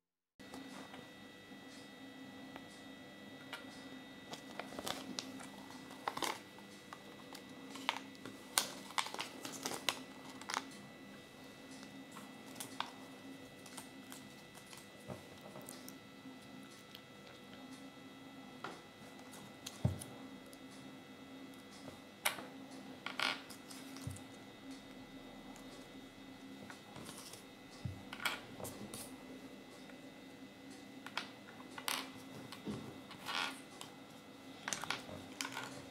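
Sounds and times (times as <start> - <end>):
steady low hum: 0.4 - 35.9.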